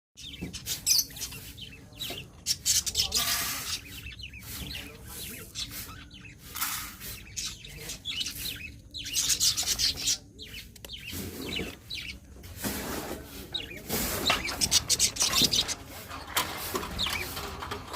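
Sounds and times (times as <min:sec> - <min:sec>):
parakeets chattering and chirping: 0:00.2 - 0:17.9.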